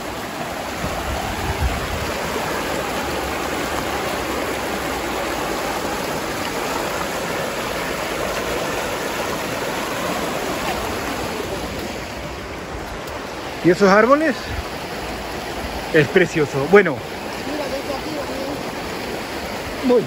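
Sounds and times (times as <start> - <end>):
river flowing: 0.0 - 20.0.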